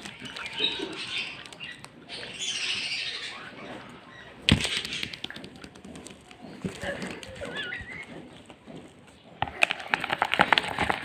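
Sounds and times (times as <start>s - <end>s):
pet birds chirping and squawking: 0.0s - 11.0s.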